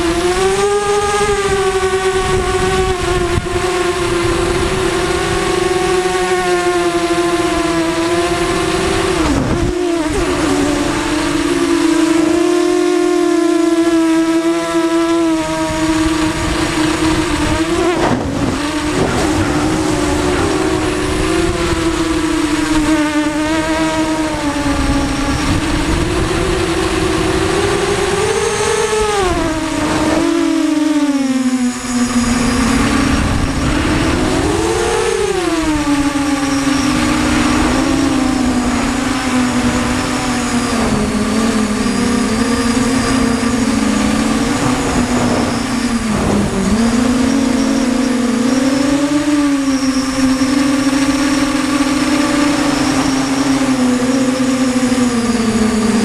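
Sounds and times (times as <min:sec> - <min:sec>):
quadcopter motors buzzing whine: 0:00.0 - 0:56.0
wind noise on microphone: 0:00.0 - 0:56.0.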